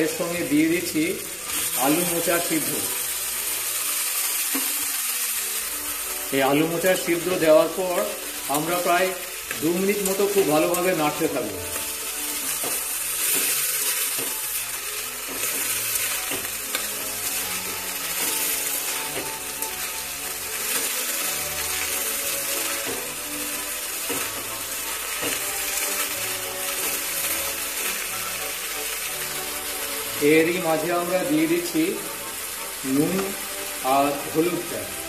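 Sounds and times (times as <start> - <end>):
soft background music: 0.0 - 35.0
vegetables sizzling in oil: 0.0 - 35.0.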